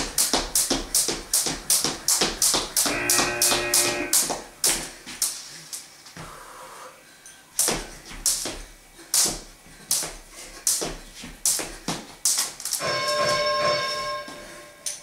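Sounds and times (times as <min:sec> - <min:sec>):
skipping rope slapping floor: 0:00.0 - 0:05.8, 0:07.6 - 0:13.8.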